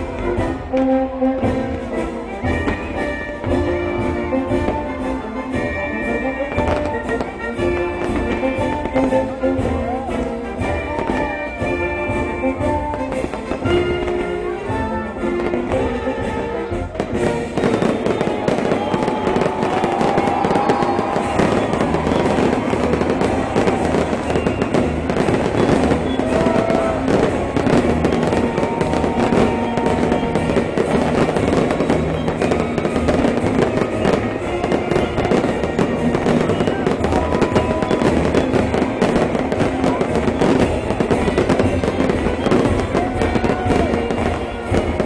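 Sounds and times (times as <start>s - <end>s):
fireworks bangs and crackling: 0.0s - 45.0s
music playing: 0.0s - 45.0s.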